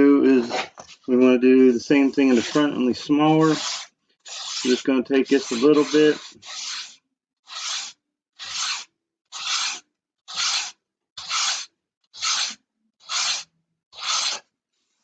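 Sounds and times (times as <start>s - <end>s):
sandpaper rubbing on wood: 2.2s - 14.4s.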